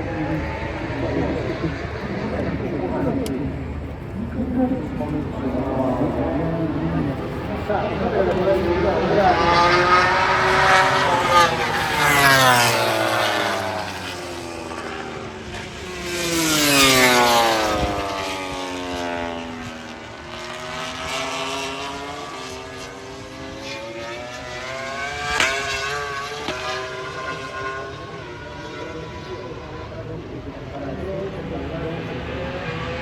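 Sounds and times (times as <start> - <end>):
race motorcycles passing: 0.0 - 33.0.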